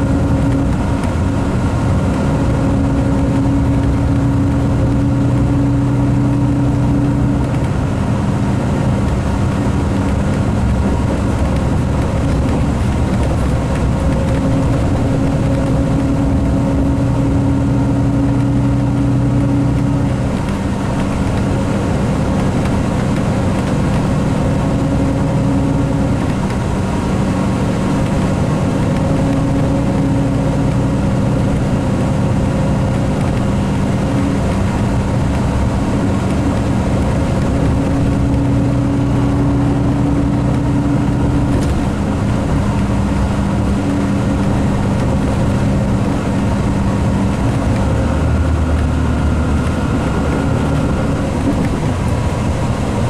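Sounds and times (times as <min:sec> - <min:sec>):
coach engine droning: 0:00.0 - 0:53.0
rushing background noise: 0:00.0 - 0:53.0.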